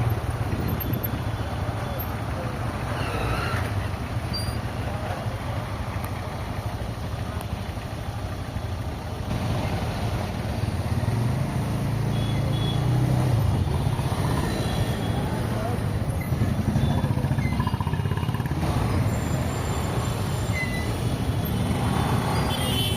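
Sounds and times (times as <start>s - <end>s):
tyre and road noise: 0.0s - 22.9s.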